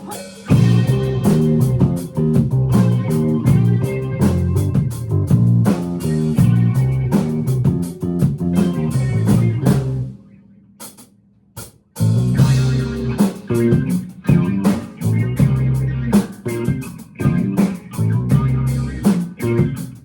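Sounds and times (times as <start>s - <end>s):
rock band playing: 0.0s - 10.2s, 12.0s - 20.0s.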